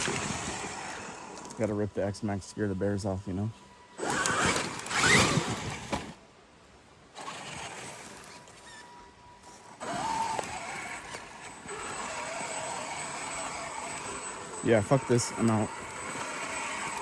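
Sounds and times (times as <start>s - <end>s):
electric motor whining: 0.0s - 6.0s, 7.2s - 17.0s.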